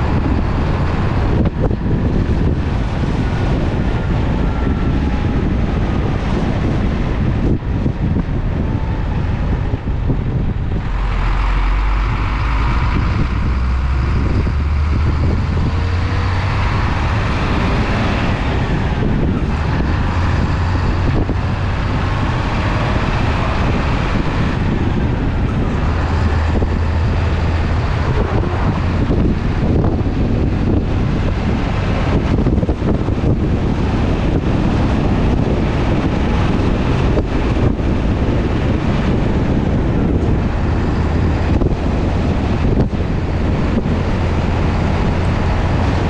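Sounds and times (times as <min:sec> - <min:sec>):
truck diesel engine running: 0:00.0 - 0:46.0
tyre and road noise: 0:00.0 - 0:46.0.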